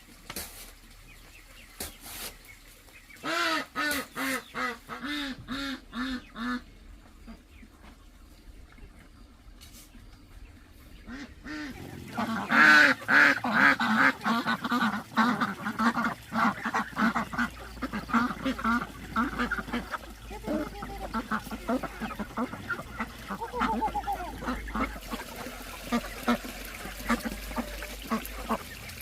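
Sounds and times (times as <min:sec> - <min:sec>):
ducks quacking: 0:03.0 - 0:09.3, 0:10.4 - 0:29.0.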